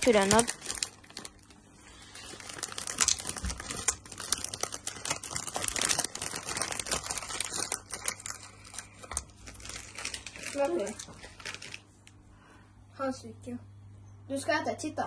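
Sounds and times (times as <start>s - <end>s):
plastic candy bag crinkling: 0.0s - 12.2s.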